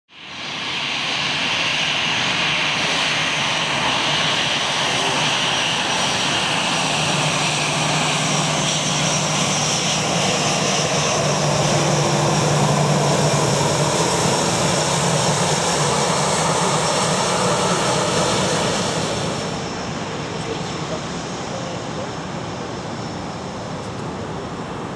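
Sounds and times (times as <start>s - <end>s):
jet airliner rush and whine: 0.1s - 24.9s.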